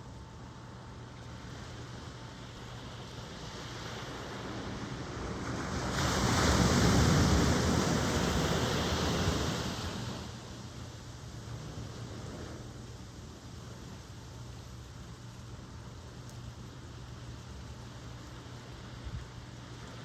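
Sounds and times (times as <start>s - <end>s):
steady surf wash: 0.0s - 20.0s.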